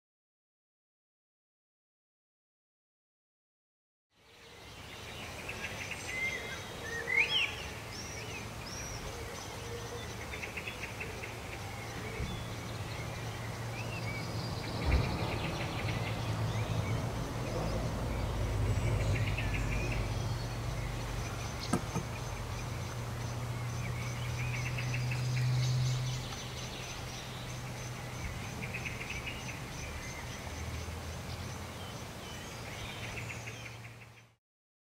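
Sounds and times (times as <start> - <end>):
birds calling and chirping: 4.3 - 34.4
distant traffic rumble: 4.6 - 34.2.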